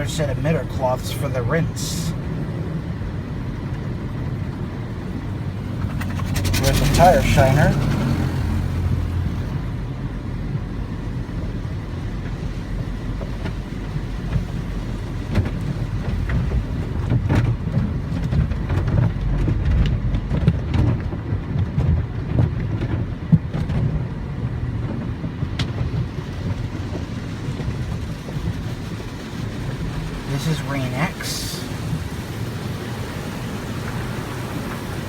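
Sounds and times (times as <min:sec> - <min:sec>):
car wash machinery rumble: 0:00.0 - 0:35.0.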